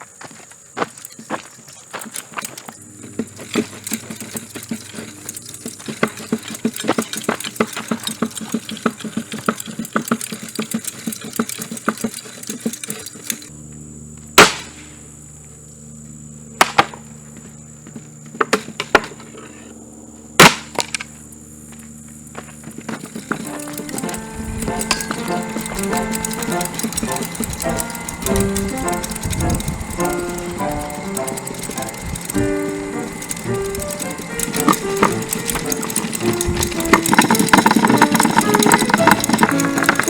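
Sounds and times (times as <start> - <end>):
ceiling fan clattering and cracking: 0.0 - 40.0
electric motor humming: 1.8 - 40.0.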